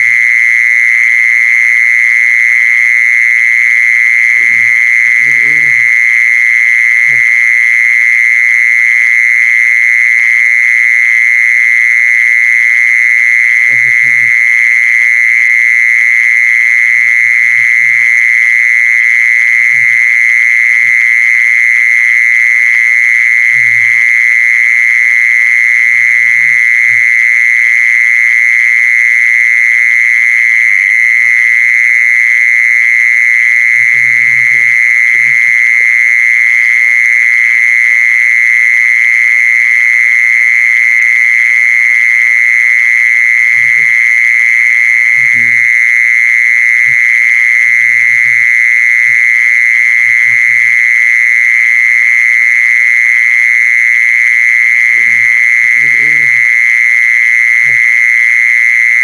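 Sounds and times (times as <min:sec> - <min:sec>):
insect trilling call: 0:00.0 - 0:59.0.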